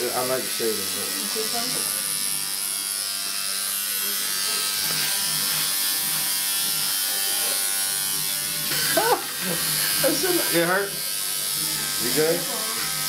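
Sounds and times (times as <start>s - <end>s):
tattoo machine buzzing: 0.0s - 13.0s.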